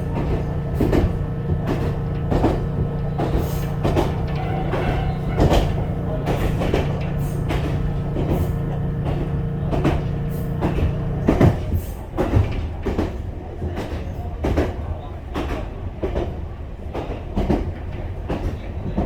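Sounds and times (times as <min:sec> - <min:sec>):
steady train hum: 0:00.0 - 0:19.0
train wheels knocking on rail joints: 0:00.0 - 0:19.0.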